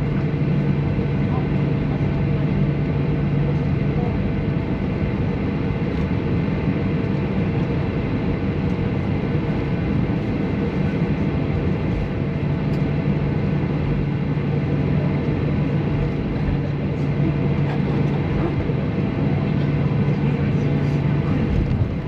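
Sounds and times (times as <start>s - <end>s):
jet engine hum in cabin: 0.0s - 22.0s.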